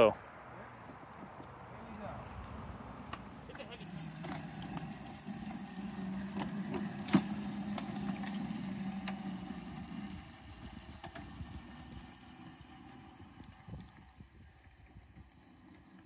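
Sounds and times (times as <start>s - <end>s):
miniature locomotive humming: 3.1s - 16.0s.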